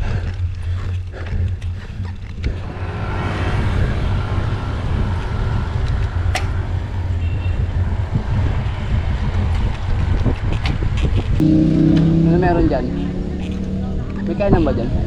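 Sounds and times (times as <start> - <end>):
wind rumble on microphone: 0.0 - 15.0
motor vehicle passing: 1.4 - 15.0.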